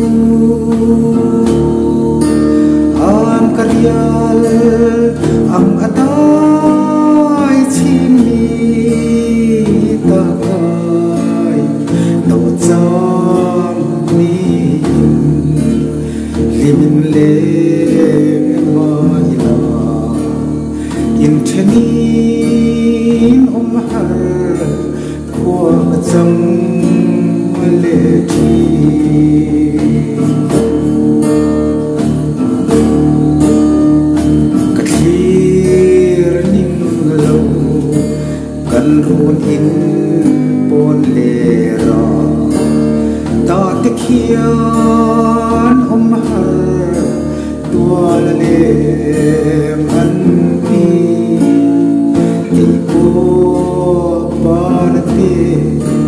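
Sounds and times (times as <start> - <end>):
acoustic guitar: 0.0 - 56.0
man singing: 0.0 - 56.0.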